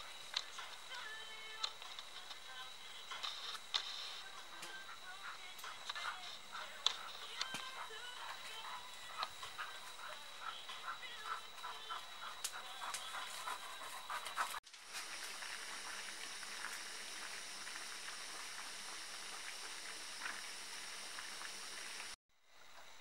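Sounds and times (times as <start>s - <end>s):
gas stove burner hissing: 0.0s - 22.9s.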